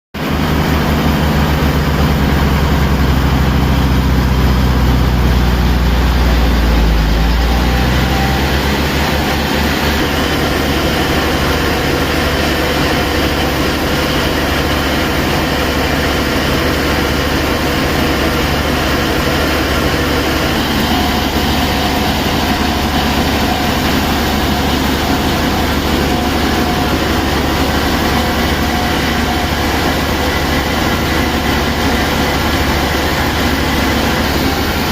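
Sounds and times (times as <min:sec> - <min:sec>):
sawmill machinery rumbling: 0:00.2 - 0:34.9.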